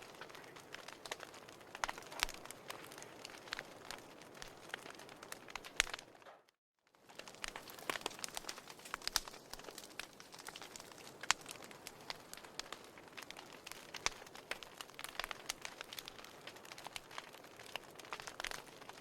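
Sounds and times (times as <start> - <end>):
firewood crackling: 0.0 - 19.0.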